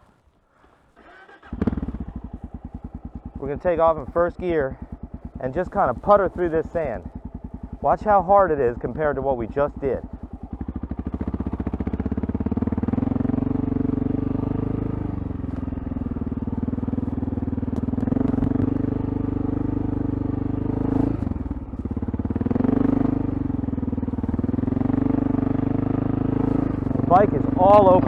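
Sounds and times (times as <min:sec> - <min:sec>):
dirt bike engine puttering: 0:00.5 - 0:28.0.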